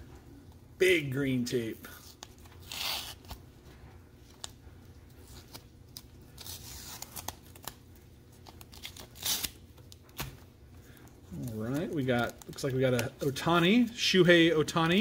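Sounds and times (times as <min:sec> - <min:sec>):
plastic card sleeves rustling: 0:01.9 - 0:15.0.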